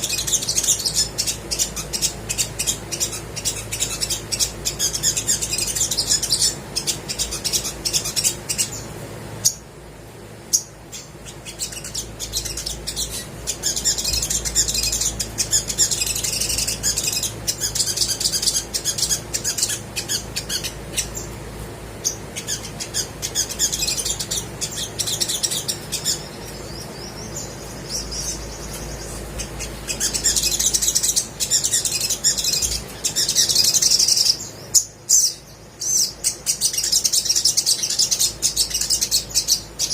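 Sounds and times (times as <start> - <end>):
bird chirping and twittering: 0.0 - 39.9
faint low hum: 0.0 - 39.9.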